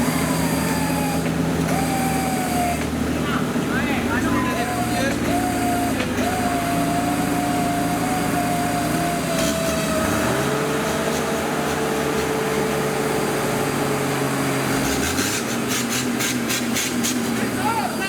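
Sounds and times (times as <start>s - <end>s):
off-road engine under load: 0.0s - 18.0s.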